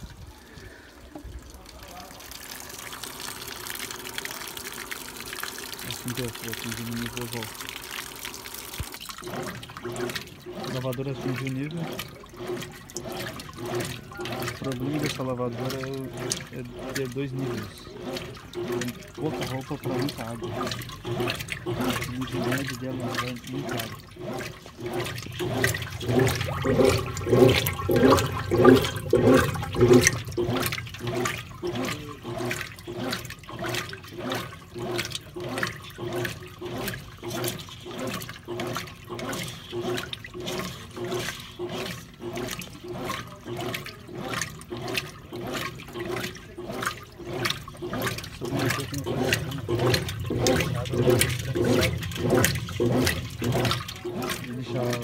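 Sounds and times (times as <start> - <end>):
washing machine agitator sloshing water: 0.0 - 55.0.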